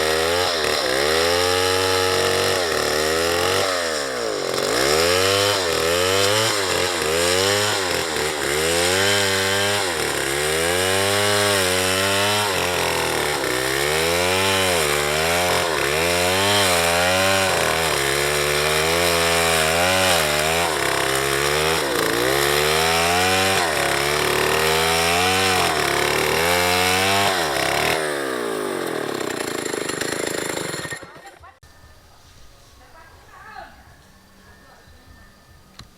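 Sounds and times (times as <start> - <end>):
chainsaw cutting wood: 0.0 - 31.6.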